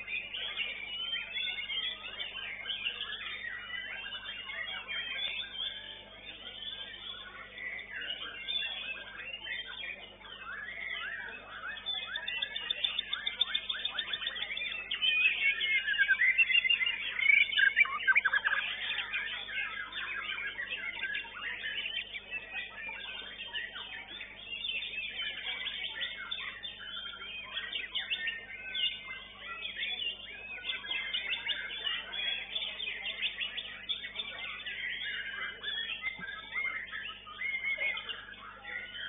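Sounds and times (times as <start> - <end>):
bird singing whistles and chirps: 0.0 - 39.0.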